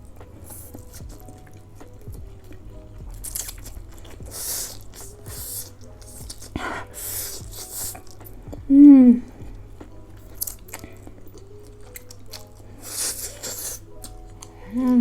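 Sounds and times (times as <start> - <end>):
chewing and biting food: 0.0 - 15.0
quiet background music: 0.0 - 15.0.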